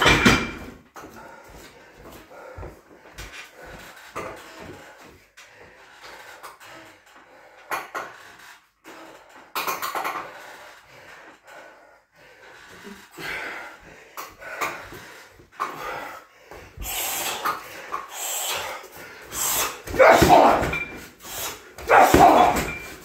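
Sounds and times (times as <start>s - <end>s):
man breathing heavily: 0.6s - 23.0s.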